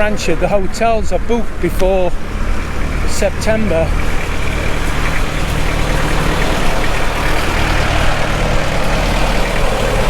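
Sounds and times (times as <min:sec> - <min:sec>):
road and traffic noise: 0:00.0 - 0:10.0
vehicle engine humming: 0:00.0 - 0:10.0.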